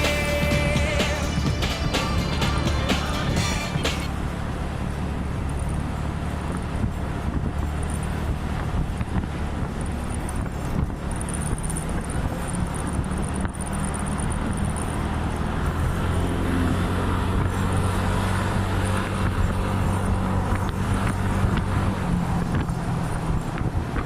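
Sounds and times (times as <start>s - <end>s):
road and wind noise: 0.0s - 24.0s
scooter engine running: 0.0s - 24.0s.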